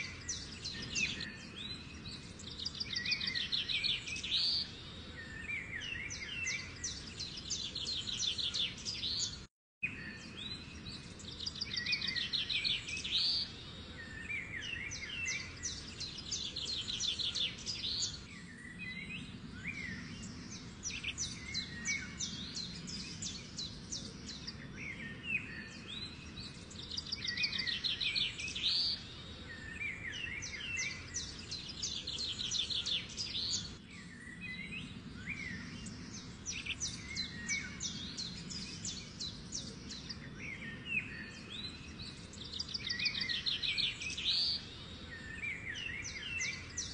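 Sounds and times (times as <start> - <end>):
birds chirping and whistling: 0.0 - 46.9.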